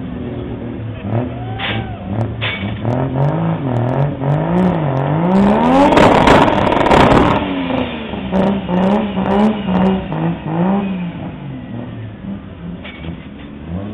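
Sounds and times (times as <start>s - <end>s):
car engine revving hard: 0.3s - 13.9s.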